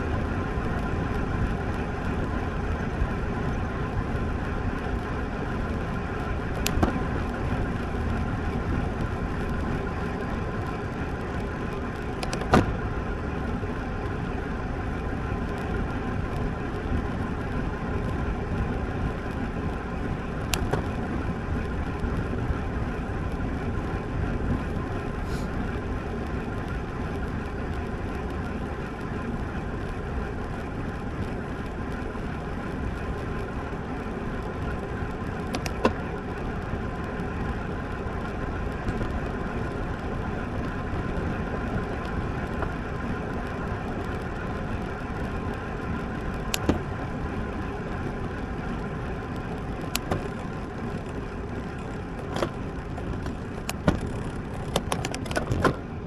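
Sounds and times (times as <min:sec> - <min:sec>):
bicycle tyre noise: 0:00.0 - 0:56.0.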